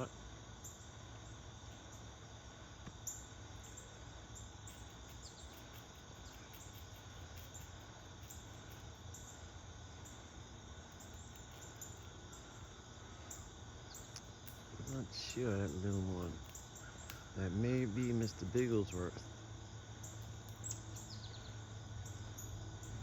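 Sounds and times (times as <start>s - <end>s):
insects chirring: 0.0s - 23.0s
low steady hum: 0.0s - 23.0s.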